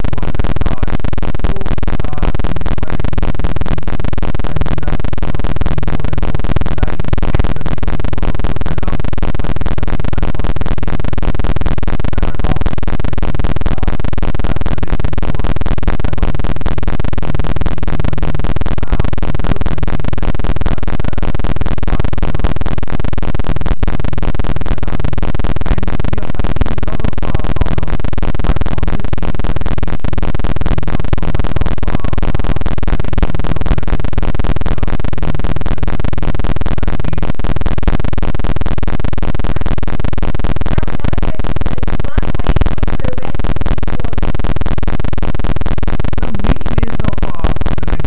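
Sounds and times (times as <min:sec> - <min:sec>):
harsh electronic buzz: 0:00.0 - 0:48.0.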